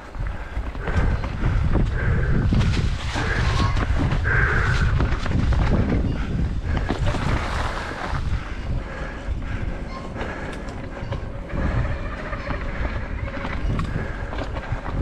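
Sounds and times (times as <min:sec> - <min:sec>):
bike chain and frame rattling: 0:00.0 - 0:15.0
wind on microphone: 0:00.0 - 0:15.0.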